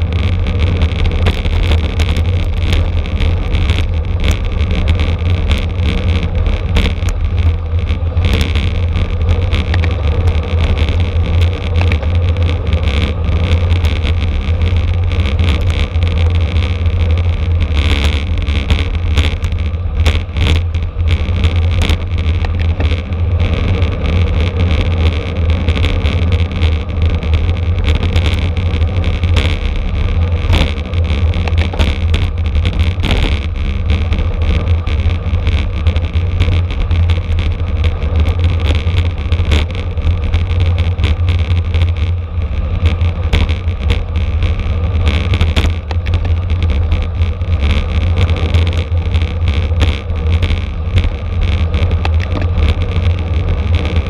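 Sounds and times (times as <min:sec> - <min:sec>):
bicycle road and drivetrain noise: 0:00.0 - 0:54.0.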